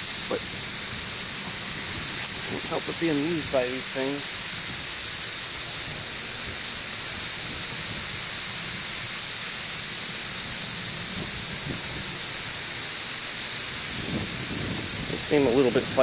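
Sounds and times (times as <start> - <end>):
cicadas high-pitched drone: 0.0 - 16.0.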